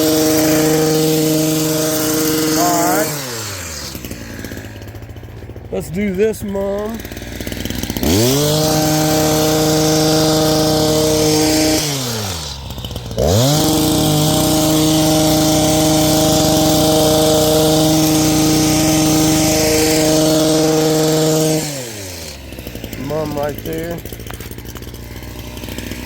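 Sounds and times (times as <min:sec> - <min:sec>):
hedge trimmer motor whining: 0:00.0 - 0:26.0.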